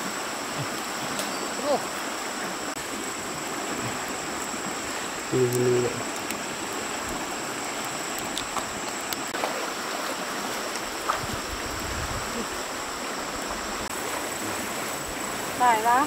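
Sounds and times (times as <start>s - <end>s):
stream flowing: 0.0s - 16.0s.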